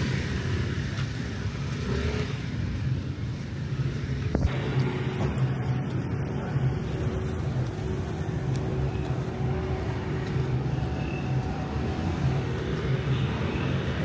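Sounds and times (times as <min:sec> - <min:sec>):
street traffic engine rumble: 0:00.0 - 0:14.0.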